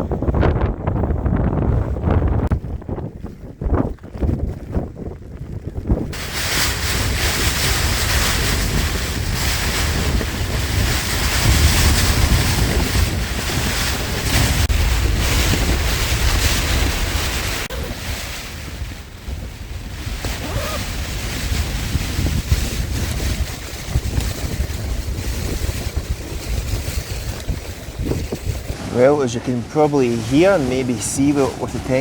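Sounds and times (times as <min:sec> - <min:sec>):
gale-force wind gusting: 0:00.0 - 0:32.0
wind buffeting microphone: 0:00.0 - 0:32.0.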